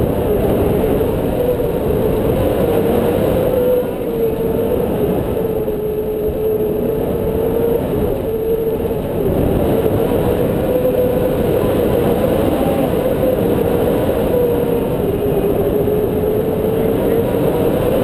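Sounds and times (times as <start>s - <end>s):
wind roaring over microphone: 0.0s - 18.0s.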